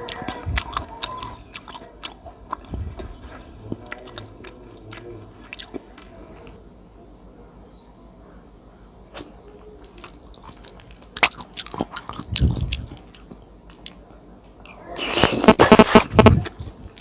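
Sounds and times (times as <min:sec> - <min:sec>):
mouth chewing food: 0:00.0 - 0:06.6, 0:09.1 - 0:17.0.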